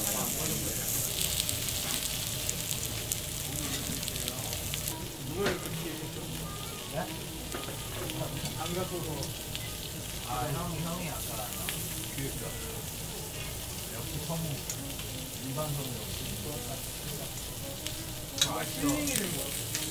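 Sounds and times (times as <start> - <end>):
meat sizzling on grill plate: 0.0 - 19.9.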